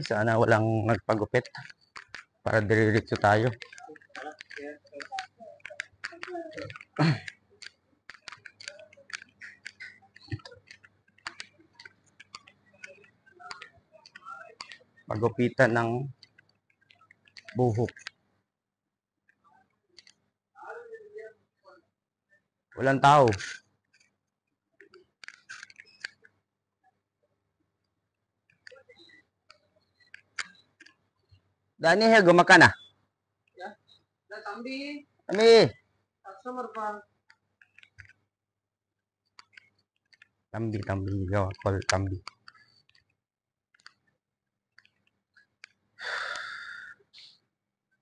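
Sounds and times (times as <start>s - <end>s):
faint clicks and rustles: 0.0s - 18.5s, 19.2s - 32.2s, 35.0s - 38.4s, 39.2s - 46.0s.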